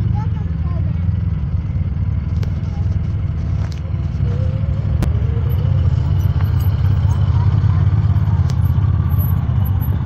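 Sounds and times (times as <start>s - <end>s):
vehicle engine running low: 0.0s - 10.0s.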